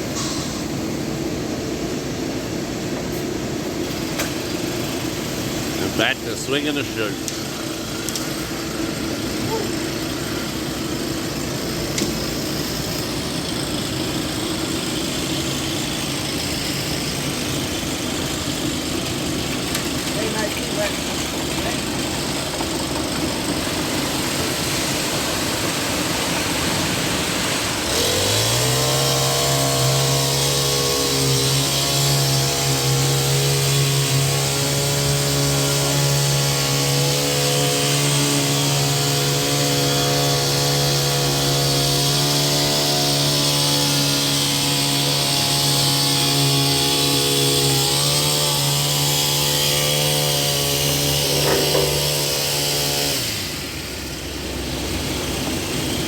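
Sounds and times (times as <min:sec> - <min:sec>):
truck diesel engine revving: 0:08.8 - 0:56.0.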